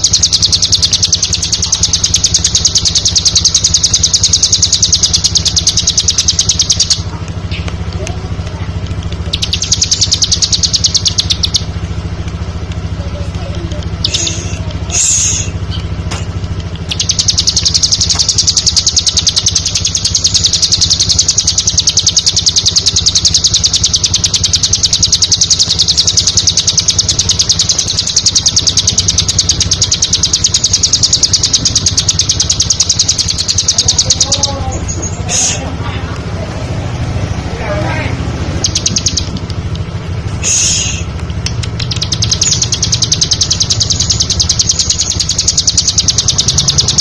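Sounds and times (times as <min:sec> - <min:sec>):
bird singing rapid trill: 0:00.0 - 0:07.8, 0:09.0 - 0:12.2, 0:13.0 - 0:35.7, 0:37.0 - 0:47.0
steady low hum: 0:00.0 - 0:47.0.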